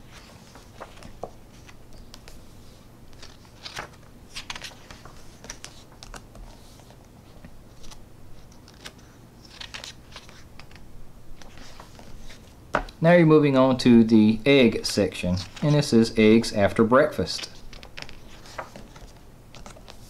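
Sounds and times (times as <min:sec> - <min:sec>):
book pages turning: 0:00.0 - 0:10.8, 0:11.4 - 0:12.9, 0:15.2 - 0:20.0.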